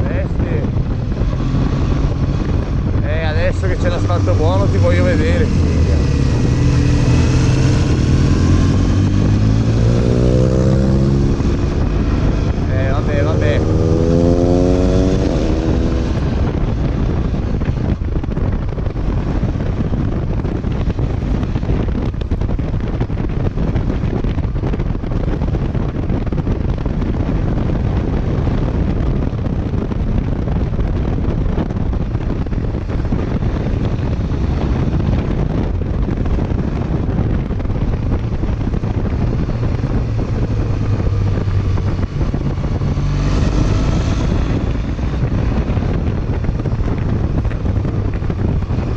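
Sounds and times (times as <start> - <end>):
motorcycle engine: 0.0 - 48.9
wind rushing over microphone: 0.0 - 48.9.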